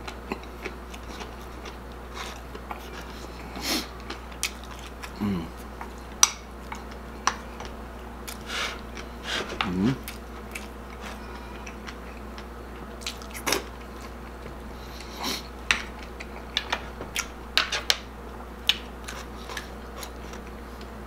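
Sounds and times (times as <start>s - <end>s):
chewing and mouth sounds: 0.0s - 18.0s, 18.6s - 20.9s.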